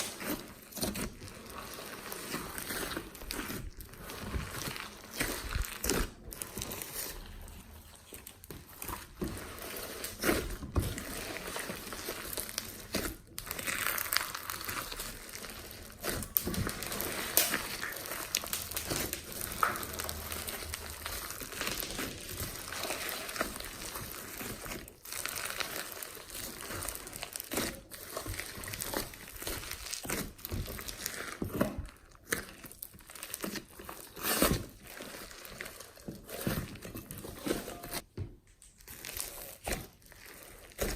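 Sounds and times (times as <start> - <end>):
slime crackling and popping: 0.0 - 40.9.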